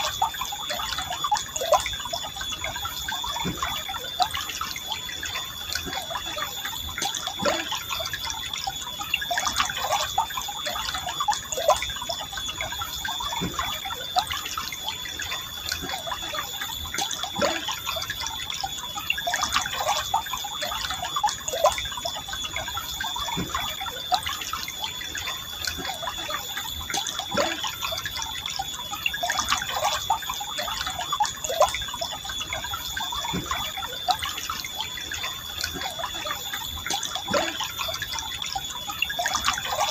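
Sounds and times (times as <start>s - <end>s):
stream flowing: 0.0s - 39.9s
thin steady high tone: 0.0s - 39.9s.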